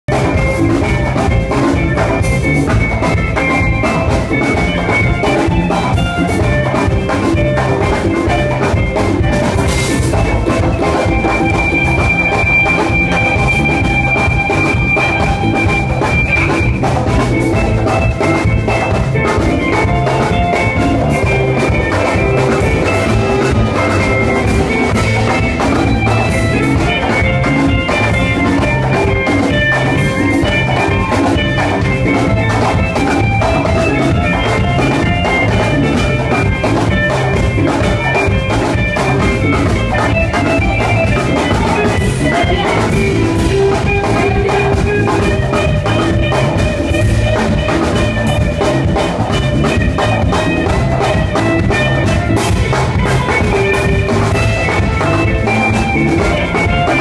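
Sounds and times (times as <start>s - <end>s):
live band dance groove: 0.0s - 57.0s.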